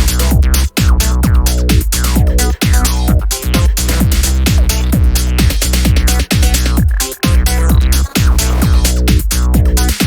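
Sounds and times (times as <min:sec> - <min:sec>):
deep bass: 0:00.0 - 0:10.0
drum machine beat: 0:00.0 - 0:10.0.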